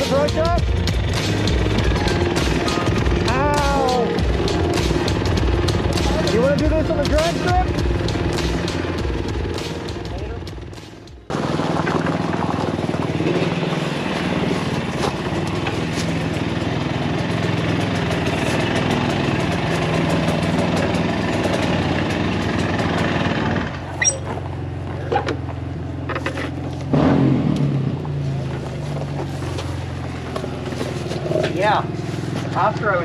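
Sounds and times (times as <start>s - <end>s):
off-road engines idling: 0.0s - 33.0s.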